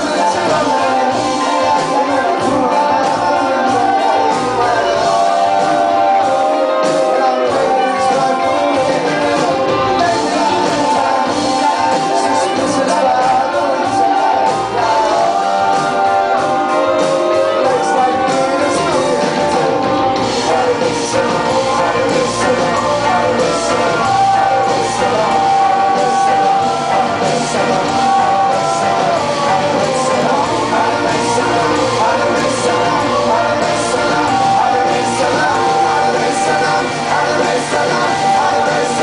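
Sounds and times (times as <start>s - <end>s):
acoustic and electric guitars: 0.0s - 39.0s
drums: 0.0s - 39.0s
electric bass: 0.0s - 39.0s
person singing: 0.0s - 39.0s.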